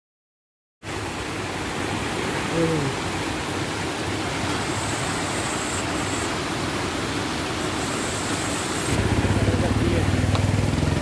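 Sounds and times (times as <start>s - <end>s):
water rushing over rocks: 0.8s - 11.0s.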